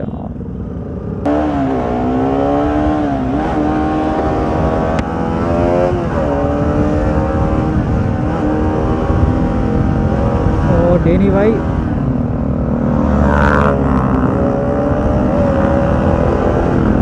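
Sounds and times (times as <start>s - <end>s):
wind and road noise: 0.0s - 17.0s
motorcycle engine revving: 0.6s - 17.0s.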